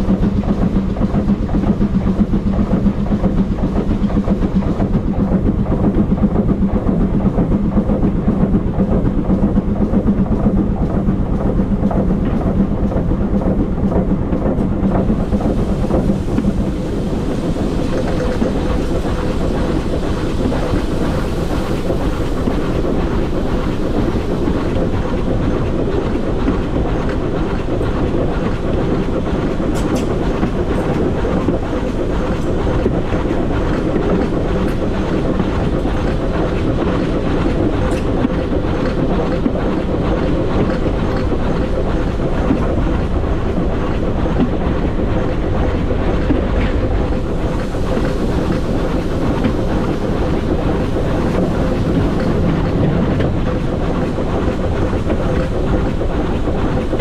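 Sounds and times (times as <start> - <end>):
train wheels on track: 0.0 - 57.0.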